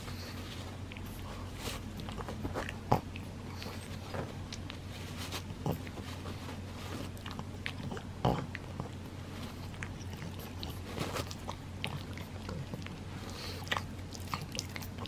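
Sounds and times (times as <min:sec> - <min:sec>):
dog chewing paper tissue: 0:00.0 - 0:15.0.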